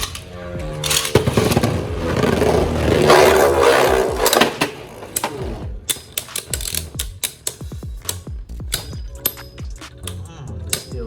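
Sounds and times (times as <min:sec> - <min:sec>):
spinning tops whirring: 0:00.0 - 0:10.2
spinning tops clacking: 0:00.0 - 0:11.0.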